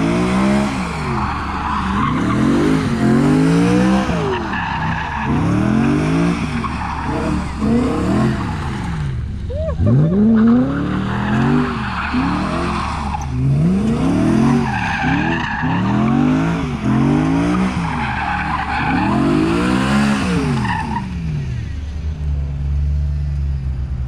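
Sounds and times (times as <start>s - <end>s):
tires squealing: 0.0s - 21.9s
car engine revving: 0.0s - 23.2s.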